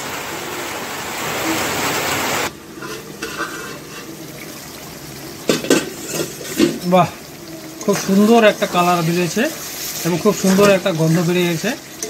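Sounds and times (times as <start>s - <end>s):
curry sizzling hiss: 0.0s - 12.0s.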